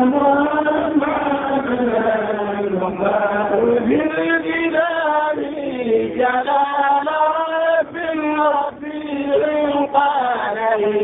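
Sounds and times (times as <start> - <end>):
person chanting religious verses: 0.0 - 11.0.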